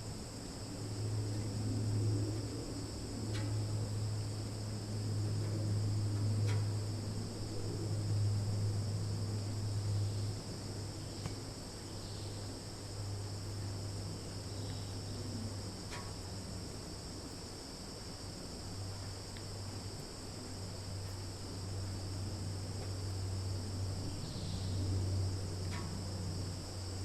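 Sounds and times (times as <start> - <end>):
crickets and cicadas trilling: 0.0 - 27.0.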